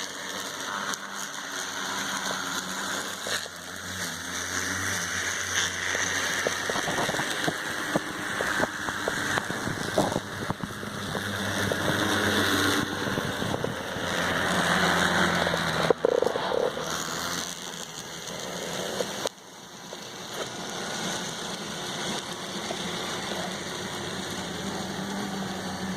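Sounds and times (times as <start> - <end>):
model train motor whir: 0.0 - 25.9
wheels clicking over rails: 0.0 - 25.9.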